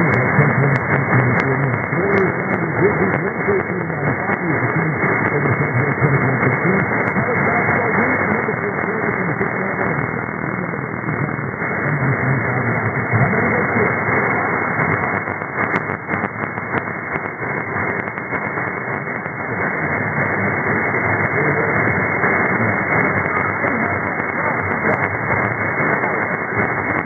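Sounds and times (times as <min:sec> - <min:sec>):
faint radio talk: 0:00.0 - 0:27.0
radio hiss: 0:00.0 - 0:27.0
static crackles: 0:00.0 - 0:27.0.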